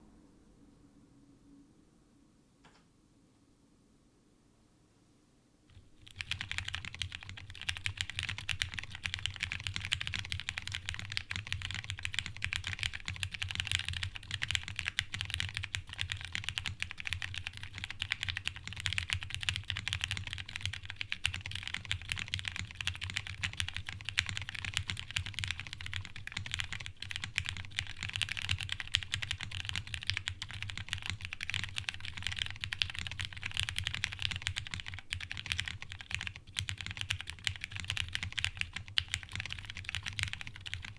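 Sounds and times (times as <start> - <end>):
mechanical keyboard typing: 5.7 - 40.9.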